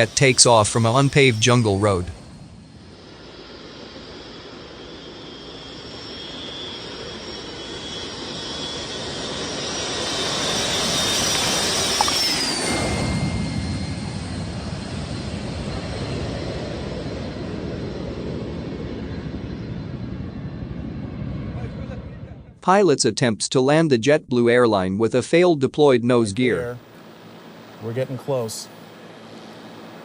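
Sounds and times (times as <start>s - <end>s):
high jet whine: 0.0s - 22.6s, 26.4s - 30.0s
jet aircraft taking off: 0.0s - 22.6s, 26.4s - 30.0s.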